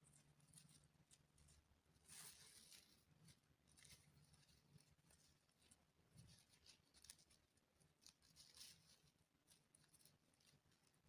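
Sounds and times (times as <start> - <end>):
ribbon rustling and scratching: 0.0 - 11.0.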